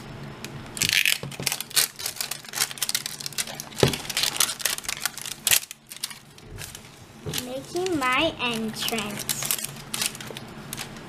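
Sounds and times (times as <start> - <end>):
wrapper crinkling: 0.8 - 11.0.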